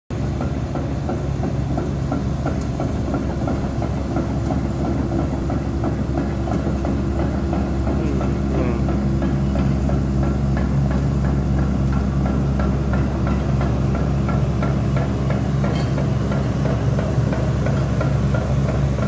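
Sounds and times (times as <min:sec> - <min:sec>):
excavator diesel engine humming: 0:00.1 - 0:19.0.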